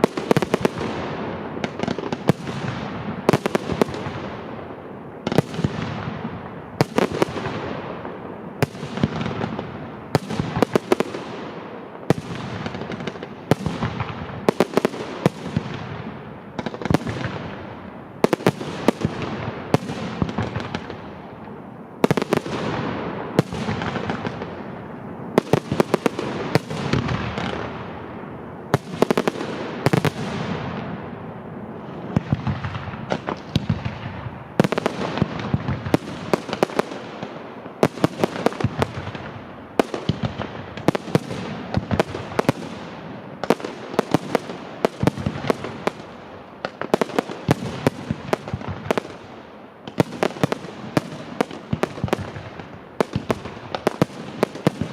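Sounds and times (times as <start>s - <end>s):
fireworks bangs: 0.0s - 54.9s
fireworks crackling: 0.0s - 54.9s.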